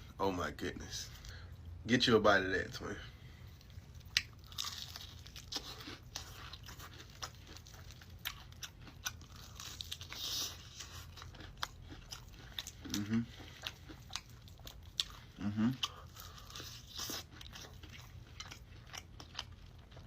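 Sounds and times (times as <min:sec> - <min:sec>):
person chewing crispy chicken: 0:03.2 - 0:20.0.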